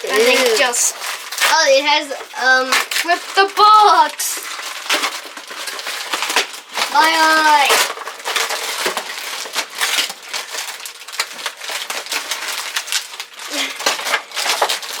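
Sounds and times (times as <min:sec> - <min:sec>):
cardboard box being torn open: 0:00.0 - 0:15.0.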